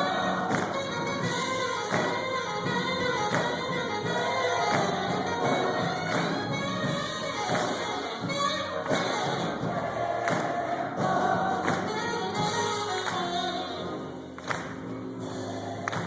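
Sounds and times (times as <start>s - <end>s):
gospel choir singing: 0.0s - 13.2s, 15.2s - 16.0s
instrumental accompaniment: 0.0s - 16.0s.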